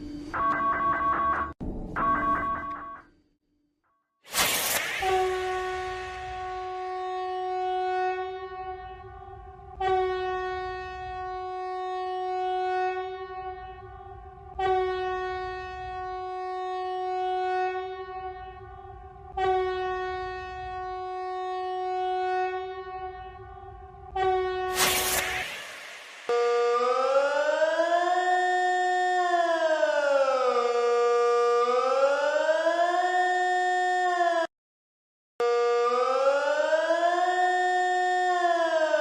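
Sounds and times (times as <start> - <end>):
emergency alert horn-like tone: 4.3 - 34.5, 35.4 - 39.0.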